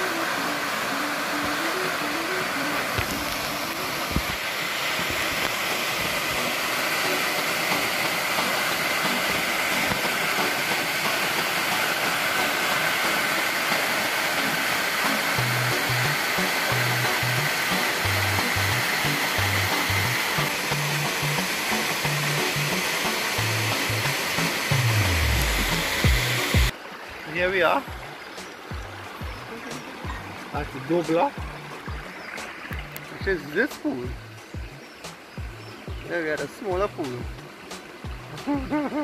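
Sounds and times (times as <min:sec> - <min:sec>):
background music: 0:00.0 - 0:04.2, 0:05.4 - 0:26.7, 0:27.3 - 0:39.0
waterfall rushing into pool: 0:00.0 - 0:39.0.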